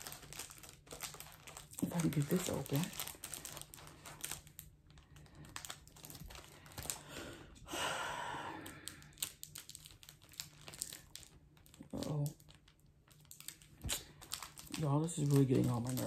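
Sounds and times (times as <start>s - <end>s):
plastic packaging crinkling: 0.0s - 7.5s, 8.6s - 16.0s.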